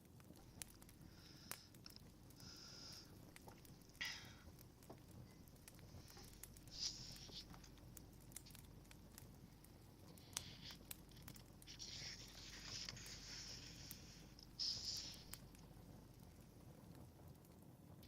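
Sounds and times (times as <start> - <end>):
fireplace crackling: 0.0 - 18.0
soft hissing of fire: 0.0 - 18.0.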